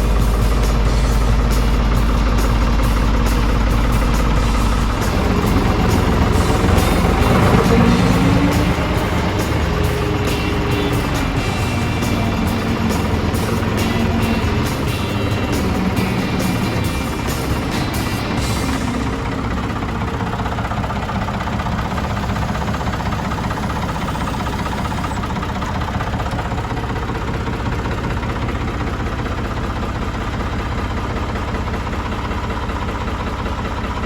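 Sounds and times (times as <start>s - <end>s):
backhoe engine idling: 0.0s - 34.0s.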